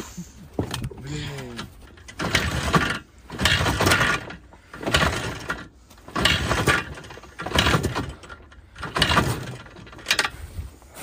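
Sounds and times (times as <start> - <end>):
motorcycle engine kick-start cranking: 0.6 - 10.4.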